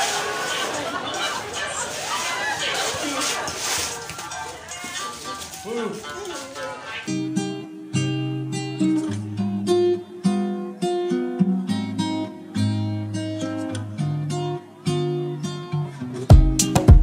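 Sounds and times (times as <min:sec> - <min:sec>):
acoustic guitar tune: 0:00.0 - 0:17.0.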